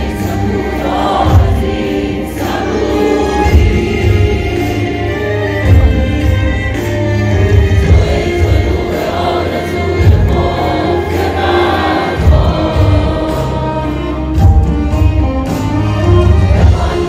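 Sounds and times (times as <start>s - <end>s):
audience singing along: 0.0s - 15.1s, 16.2s - 17.0s
traditional music ensemble playing: 0.0s - 17.0s.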